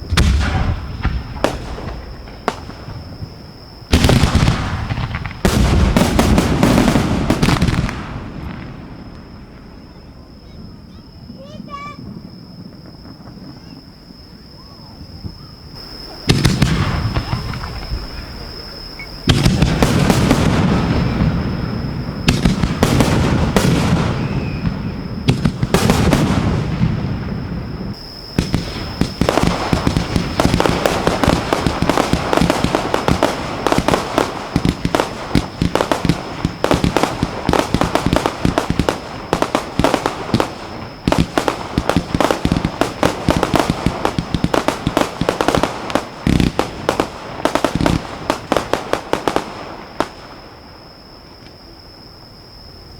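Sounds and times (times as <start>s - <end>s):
rapid sharp firework reports: 0.0s - 12.3s, 15.7s - 50.4s
firework booms: 0.0s - 51.3s
faint high whine: 0.0s - 52.9s.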